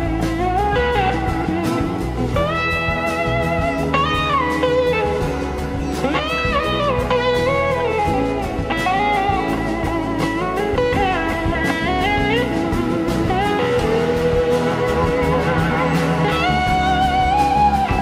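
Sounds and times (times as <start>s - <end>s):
bass guitar: 0.0s - 18.0s
electric slide guitar: 0.0s - 18.0s
steady drum beat: 0.0s - 18.0s.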